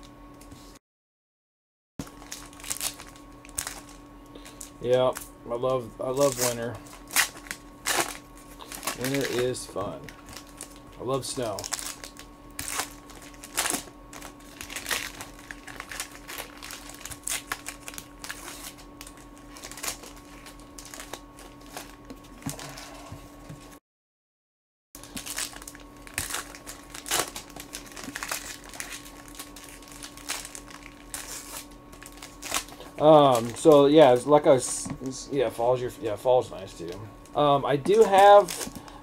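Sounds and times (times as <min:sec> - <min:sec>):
foil wrappers crinkling and tearing: 0:02.0 - 0:05.3, 0:06.0 - 0:22.8, 0:25.0 - 0:35.2, 0:35.8 - 0:39.0
faint steady hum: 0:02.0 - 0:23.8, 0:25.0 - 0:39.0.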